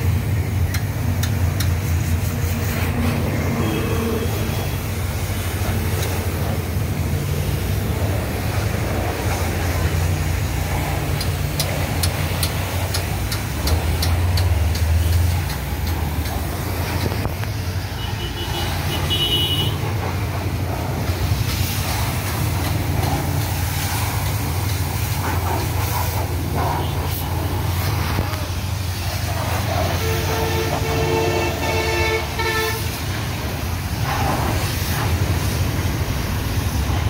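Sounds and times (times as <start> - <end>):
pressure washer humming: 0.0 - 37.0
water jet spraying metal: 0.0 - 37.0.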